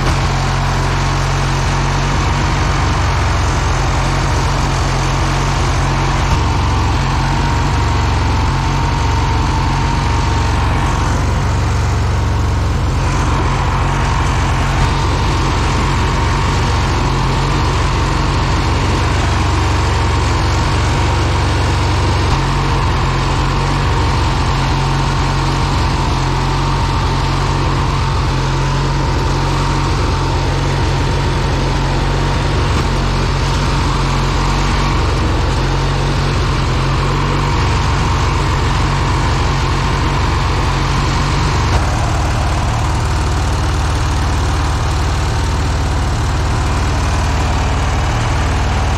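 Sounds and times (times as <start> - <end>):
lawn mower engine running: 0.0 - 48.9
steady whine: 0.0 - 48.9.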